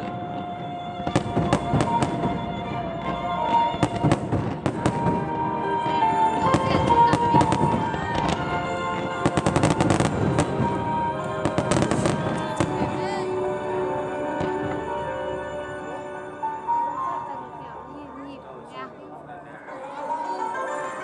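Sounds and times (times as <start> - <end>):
fireworks bangs and crackles: 0.0 - 16.8
music: 0.0 - 21.0.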